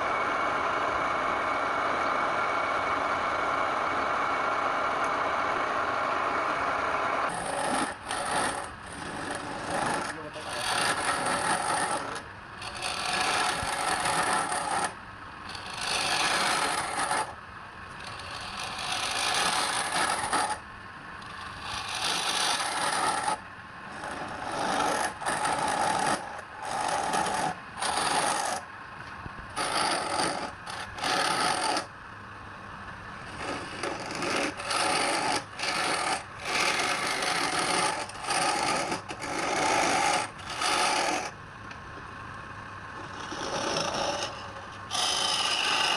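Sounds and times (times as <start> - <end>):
tool scraping spinning wood on lathe: 0.0 - 20.6, 21.2 - 31.9, 33.2 - 41.4, 43.0 - 45.9.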